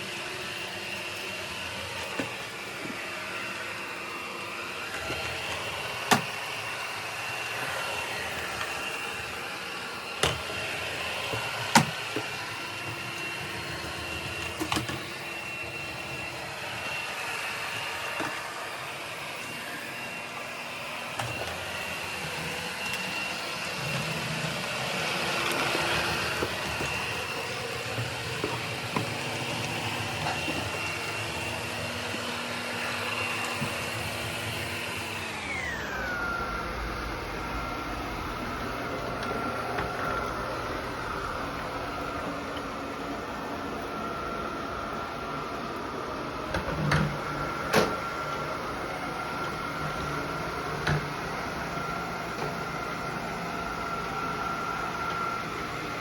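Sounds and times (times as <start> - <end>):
robot vacuum motor whine: 0.0 - 56.0.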